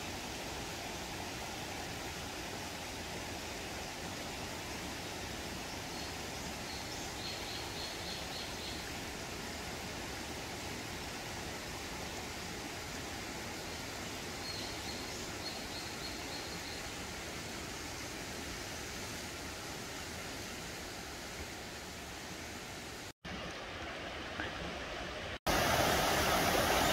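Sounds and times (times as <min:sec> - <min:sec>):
stream running over rocks: 0:00.0 - 0:26.9.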